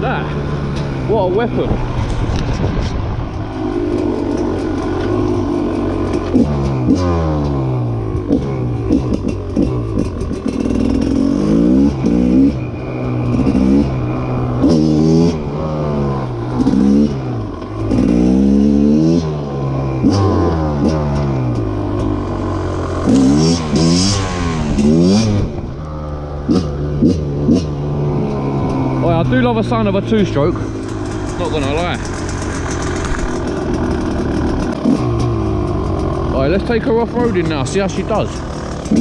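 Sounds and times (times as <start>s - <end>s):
two-stroke motorcycle engine revving: 3.3s - 39.0s.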